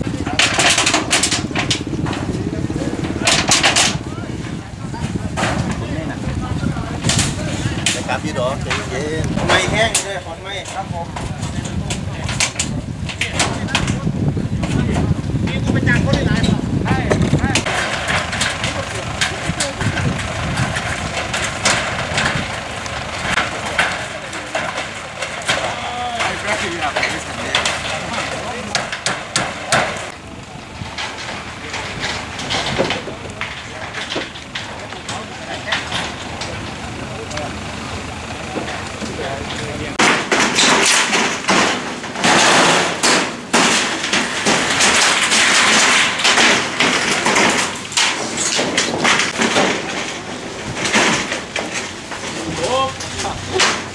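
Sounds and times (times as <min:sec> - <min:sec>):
knocks and clatter on metal roof: 0:00.0 - 0:37.4, 0:38.4 - 0:53.9
background voices: 0:00.0 - 0:53.9.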